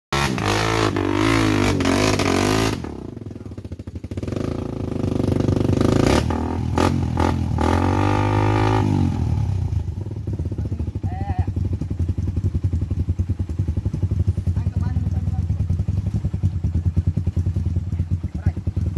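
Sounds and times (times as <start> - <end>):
motorcycle engine revving: 0.1 - 18.9.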